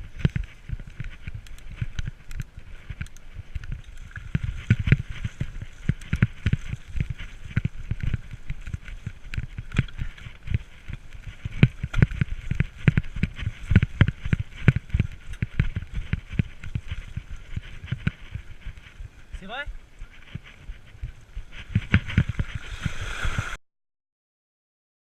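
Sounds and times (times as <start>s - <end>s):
bike knocking and rattling: 0.0s - 23.0s.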